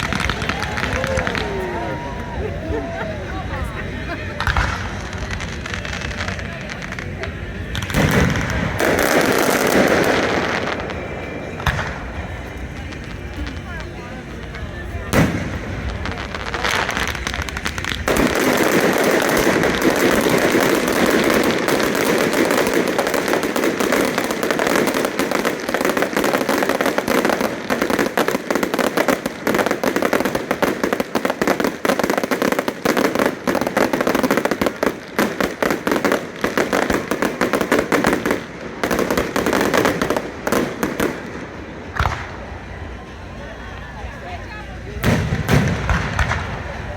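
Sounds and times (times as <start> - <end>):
fireworks crackling and popping: 0.0 - 46.9.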